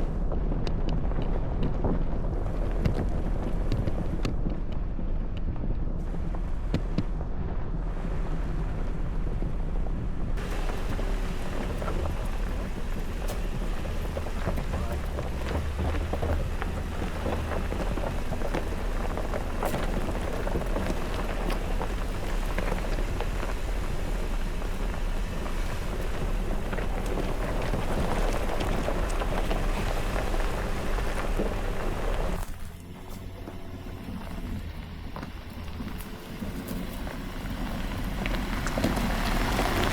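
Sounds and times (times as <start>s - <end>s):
gravel crackling under tyres: 0.0s - 39.9s
low engine and road rumble: 0.0s - 39.9s.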